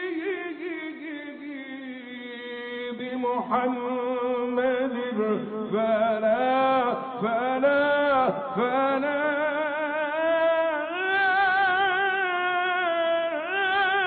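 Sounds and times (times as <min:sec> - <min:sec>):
man singing devotional chant: 0:00.0 - 0:14.0.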